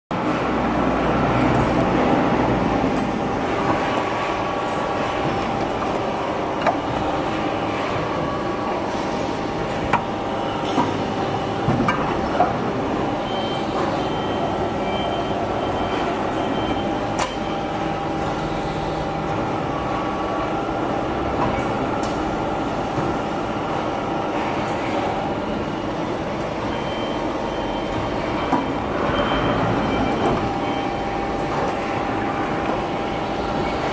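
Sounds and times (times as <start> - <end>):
factory machinery humming: 0.1 - 33.9.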